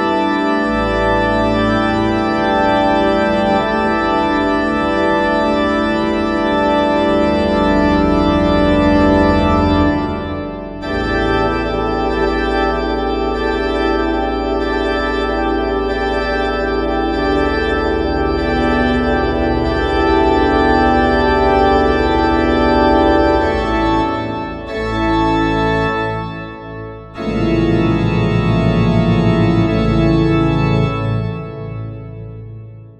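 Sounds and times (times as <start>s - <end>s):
pipe organ playing chords: 0.0s - 32.9s.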